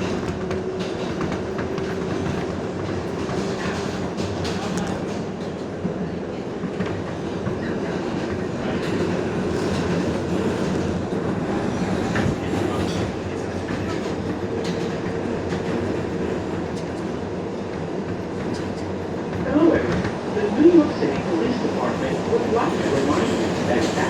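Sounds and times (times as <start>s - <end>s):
clickety-clack over rail joints: 0.0s - 24.0s
subway train wheels rumbling: 0.0s - 24.0s.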